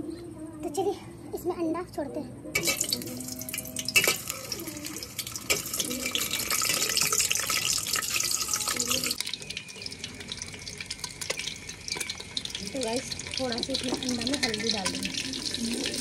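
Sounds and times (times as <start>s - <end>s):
hot oil sizzling and crackling: 2.6s - 16.0s.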